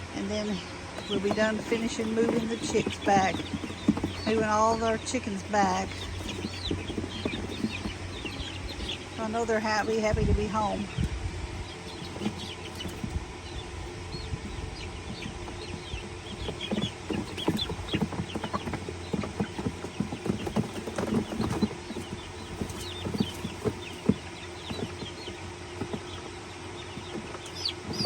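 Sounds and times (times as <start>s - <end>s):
baby chicks peeping: 0.0s - 28.0s
hens clucking: 0.0s - 28.0s
knocks and rustling: 0.8s - 9.6s, 11.0s - 28.0s.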